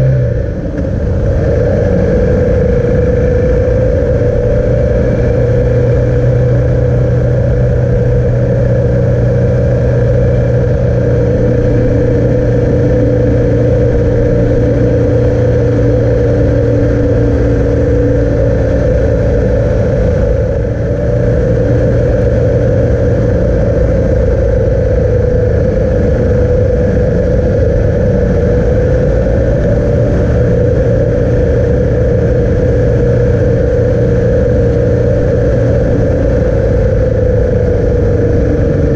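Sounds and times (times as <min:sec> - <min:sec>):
vehicle engine hum: 0:00.0 - 0:38.9.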